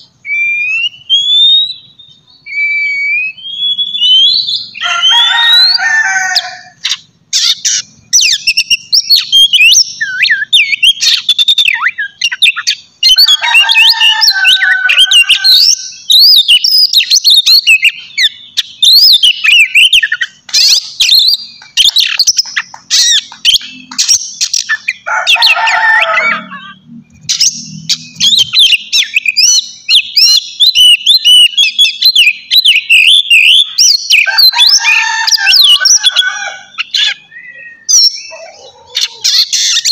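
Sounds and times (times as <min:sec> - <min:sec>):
bird singing varied whistles: 0:00.0 - 0:05.8, 0:06.9 - 0:14.2, 0:14.9 - 0:25.0, 0:26.6 - 0:34.8, 0:36.8 - 0:38.8.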